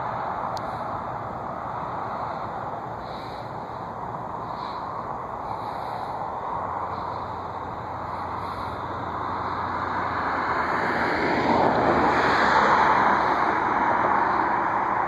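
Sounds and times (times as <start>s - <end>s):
jet aircraft passing: 0.0s - 15.0s.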